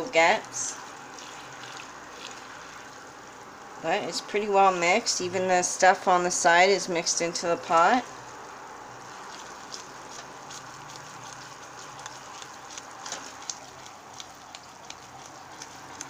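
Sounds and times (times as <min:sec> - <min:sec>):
mixture bubbling in pot: 0:00.0 - 0:16.0.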